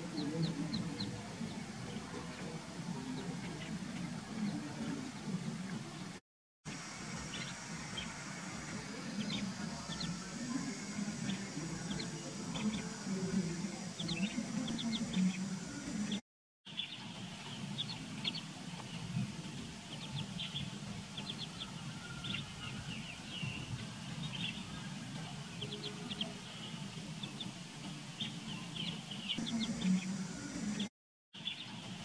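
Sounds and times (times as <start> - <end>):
ducklings peeping: 0.0 - 30.8.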